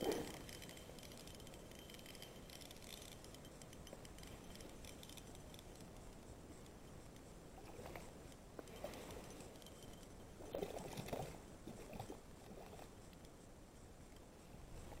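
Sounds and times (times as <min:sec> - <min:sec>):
small clicks and ticks: 0:00.0 - 0:14.5
faint background hiss: 0:00.0 - 0:15.0.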